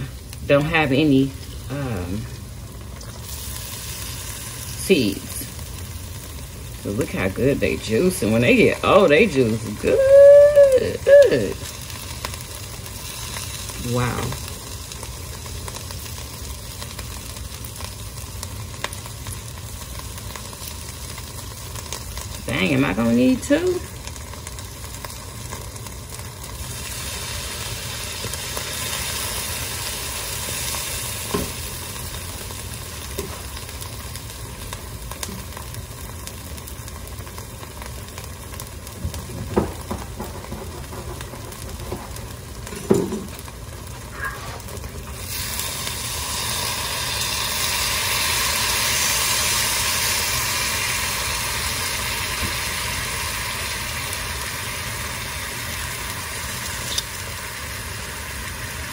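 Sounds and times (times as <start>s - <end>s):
paste sizzling in a pan: 0.0s - 58.9s.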